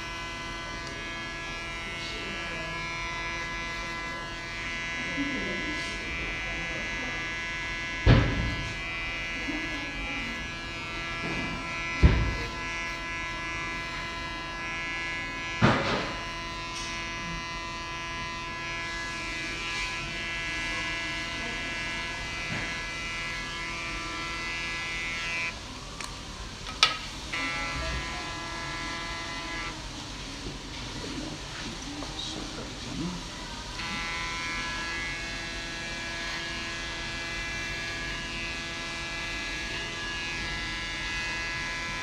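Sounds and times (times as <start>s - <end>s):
electric hair clippers humming: 0.0s - 25.6s, 26.8s - 29.9s, 33.5s - 42.0s.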